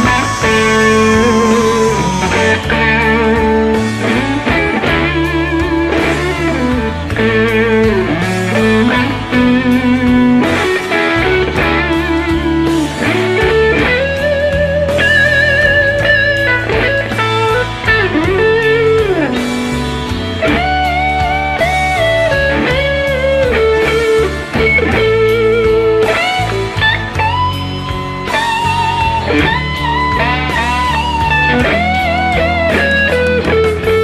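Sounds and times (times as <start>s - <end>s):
overdriven electric guitar lead: 0.0s - 34.0s.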